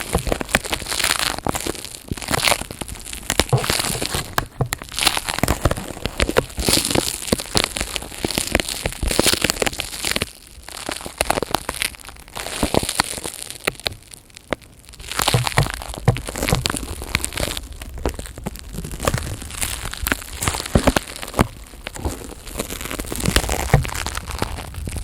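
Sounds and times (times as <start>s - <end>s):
crinkling of handled material: 0.0s - 25.0s.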